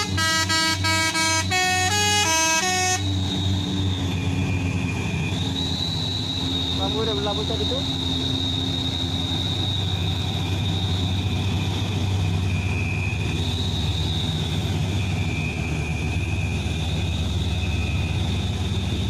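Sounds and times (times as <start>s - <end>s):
truck diesel engine rumbling: 0.0s - 19.0s
high-pitched whine: 2.6s - 19.0s.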